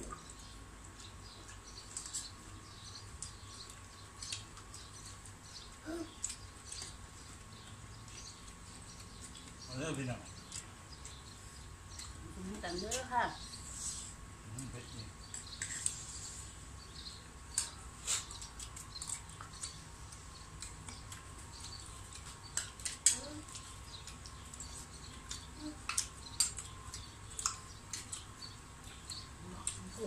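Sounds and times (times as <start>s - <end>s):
chewing: 0.0s - 9.7s, 10.3s - 12.4s, 17.5s - 30.0s.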